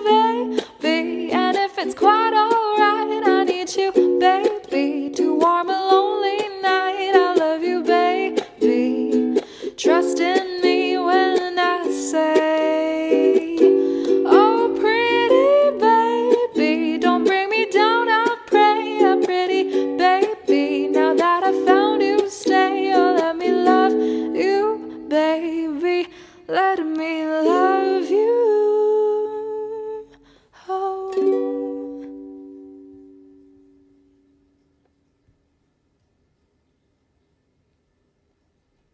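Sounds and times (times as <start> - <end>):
acoustic soundtrack music: 0.0 - 34.9.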